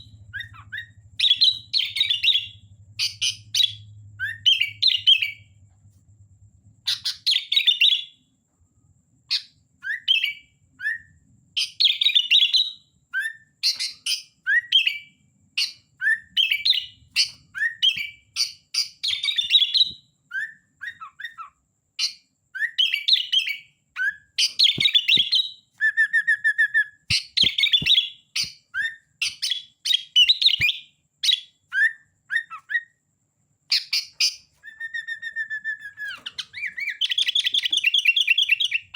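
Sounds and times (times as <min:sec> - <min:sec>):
bulbul singing: 0:00.0 - 0:05.6, 0:09.3 - 0:33.0, 0:33.7 - 0:38.9.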